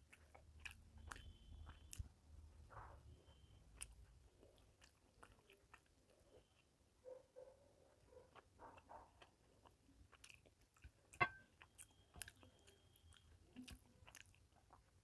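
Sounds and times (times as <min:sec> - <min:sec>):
person chewing food: 0:00.0 - 0:02.2, 0:03.2 - 0:06.8, 0:08.3 - 0:15.0.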